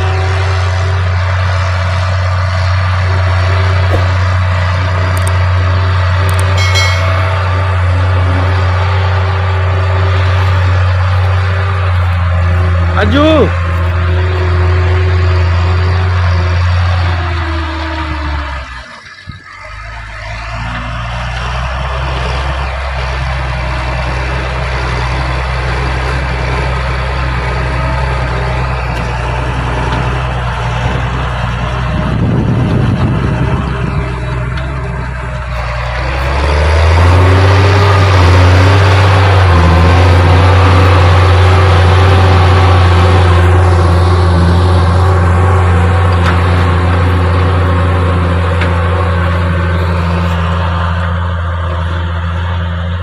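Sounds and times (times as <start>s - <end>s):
tractor diesel engine drone: 0.0s - 53.0s.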